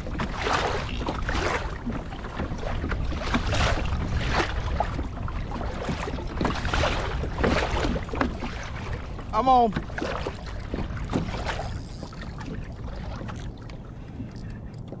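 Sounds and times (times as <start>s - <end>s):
water splashing against kayak hull: 0.0s - 15.0s
wind on microphone: 0.0s - 15.0s.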